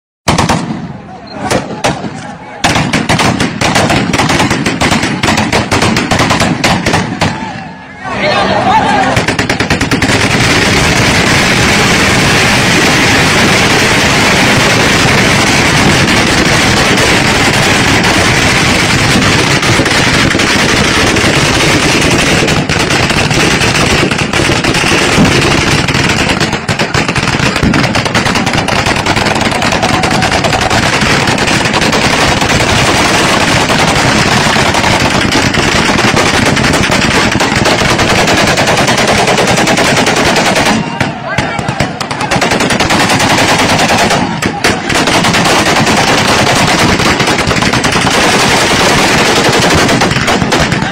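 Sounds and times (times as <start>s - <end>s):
gunfire barrage: 0.3s - 50.9s.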